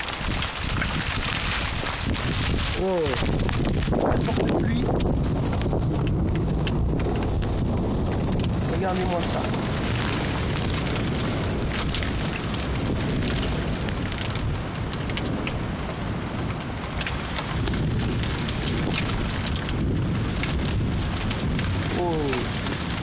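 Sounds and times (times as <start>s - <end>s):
gusty wind rumble: 0.0s - 23.0s
heavy rain pouring: 0.0s - 23.0s.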